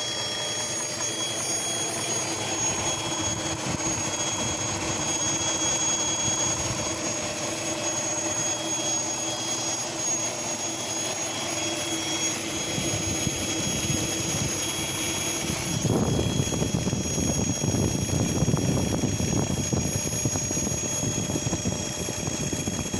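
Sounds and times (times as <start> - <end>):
engine running with hiss: 0.0 - 22.9.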